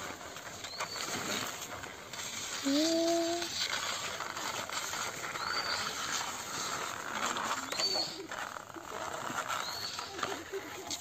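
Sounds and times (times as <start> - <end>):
toy car wheels rolling on concrete: 0.0 - 11.0.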